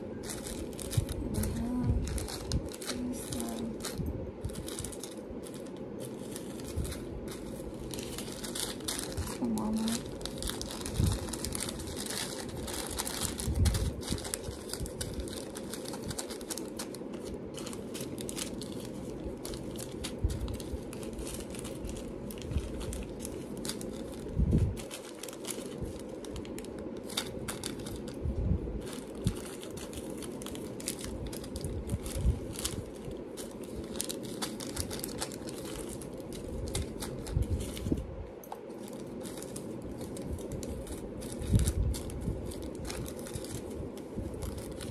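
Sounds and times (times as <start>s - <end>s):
plastic packets crinkling: 0.0s - 44.9s.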